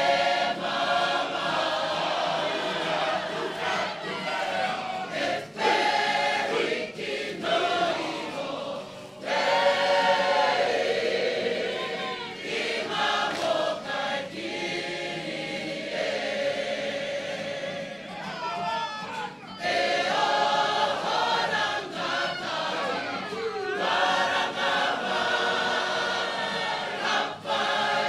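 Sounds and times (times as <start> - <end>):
group singing in unison: 0.0 - 28.0.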